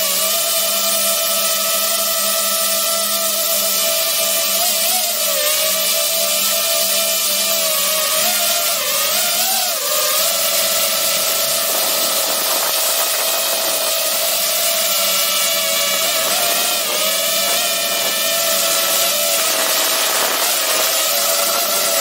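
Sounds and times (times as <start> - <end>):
drone propellers whining: 1.8 - 22.0.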